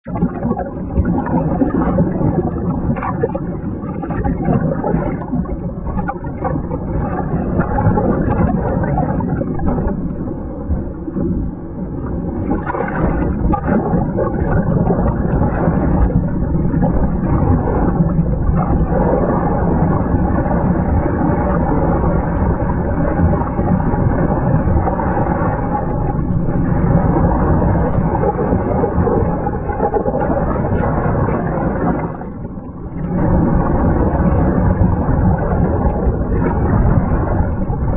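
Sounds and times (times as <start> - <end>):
water splashing and sloshing: 0.0 - 37.9.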